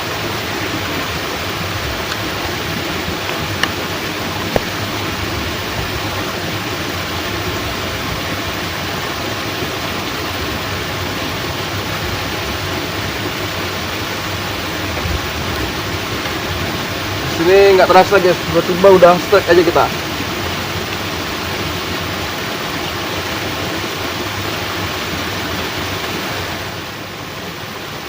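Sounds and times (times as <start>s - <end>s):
heavy rain: 0.0s - 28.0s
water flowing through sluice gate: 0.0s - 28.0s.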